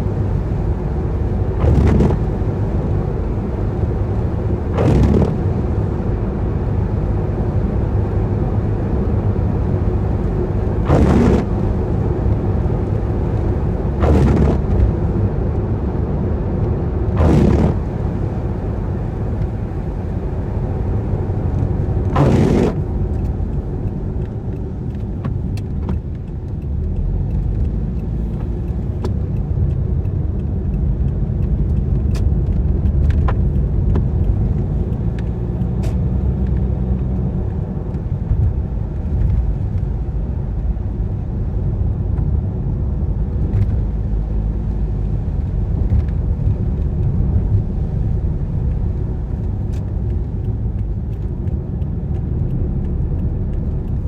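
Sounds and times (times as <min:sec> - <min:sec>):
car engine rumble: 0:00.0 - 0:54.0
tyres on a wet road: 0:00.0 - 0:54.0.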